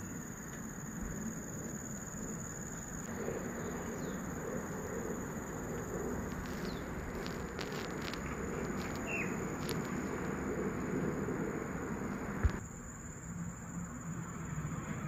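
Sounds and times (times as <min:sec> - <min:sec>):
high-pitched insect drone: 0:00.0 - 0:15.0
steady background hiss: 0:00.0 - 0:15.0.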